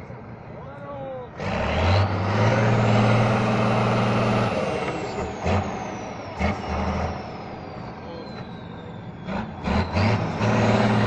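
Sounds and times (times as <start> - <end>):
diesel truck engine revving: 1.3 - 11.0.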